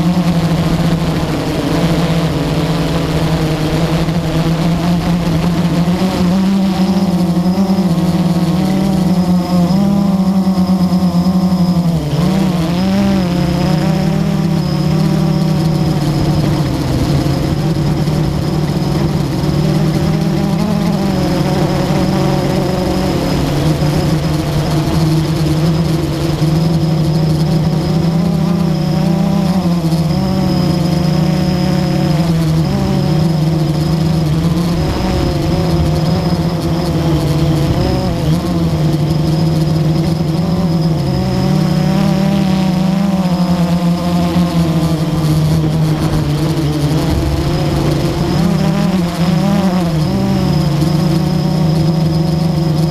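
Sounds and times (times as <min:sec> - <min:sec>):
quadcopter propellers buzzing: 0:00.0 - 0:52.9.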